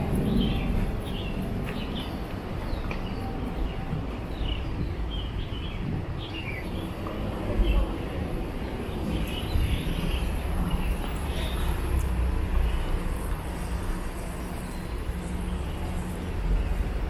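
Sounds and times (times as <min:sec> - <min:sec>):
road traffic engine rumble: 0:00.0 - 0:17.0.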